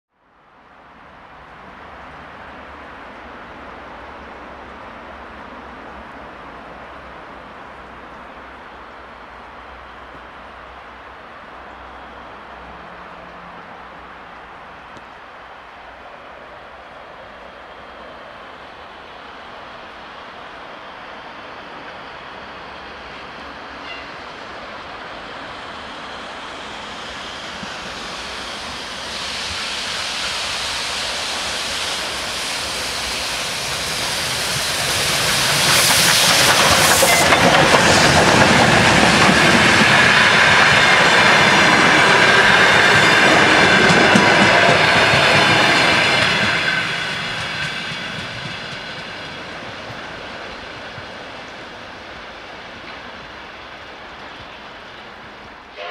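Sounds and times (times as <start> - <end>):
steam train passing: 0.3 - 55.9.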